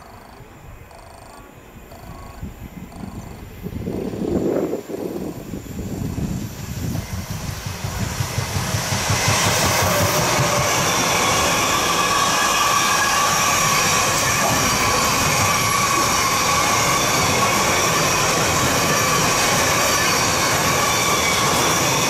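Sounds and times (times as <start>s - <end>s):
freight train rolling past: 2.9s - 22.0s.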